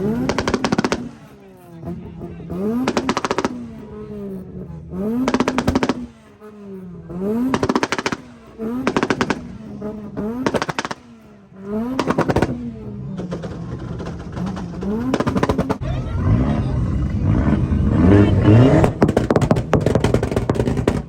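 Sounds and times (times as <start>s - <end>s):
exhaust pops and bangs: 0.0s - 15.8s, 18.6s - 21.0s
car engine revving: 0.0s - 21.0s.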